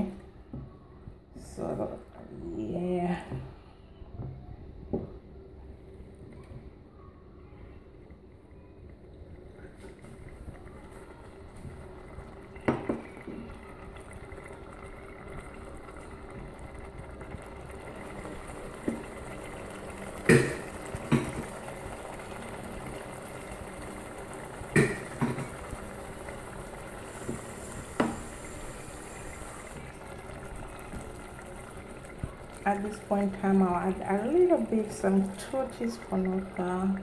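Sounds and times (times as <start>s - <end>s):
stew bubbling in a pot: 4.2s - 37.0s.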